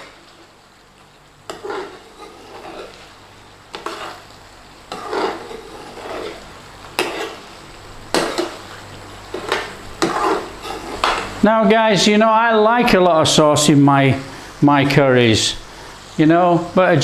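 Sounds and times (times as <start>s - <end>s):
low sizzle: 0.0s - 17.0s
utensil scraping in a pan: 1.4s - 17.0s.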